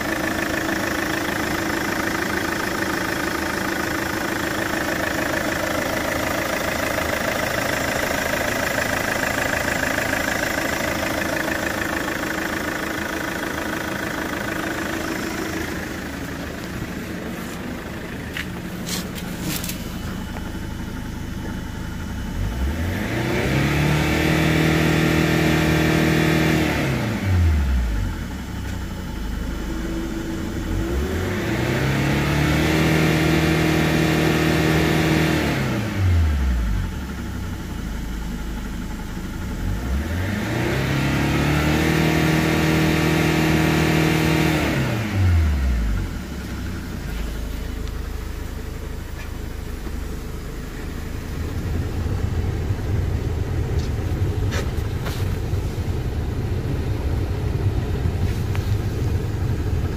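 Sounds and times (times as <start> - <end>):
diesel engine revving: 0.0 - 59.9
engine idling: 0.0 - 59.9.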